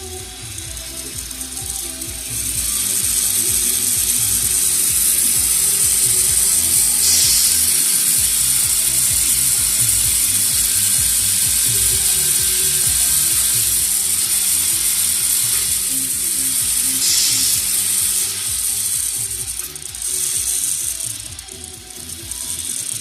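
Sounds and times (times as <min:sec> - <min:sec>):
model engine mechanical clatter: 0:00.0 - 0:23.0.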